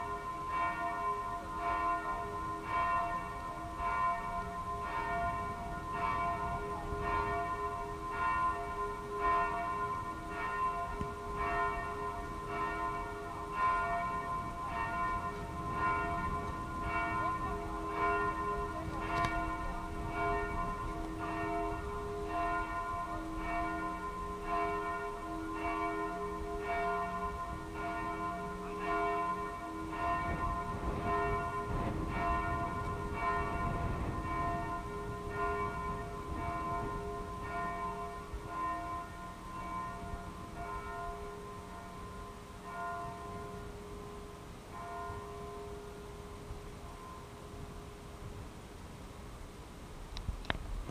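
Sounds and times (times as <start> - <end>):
church bells pealing: 0.0 - 48.3.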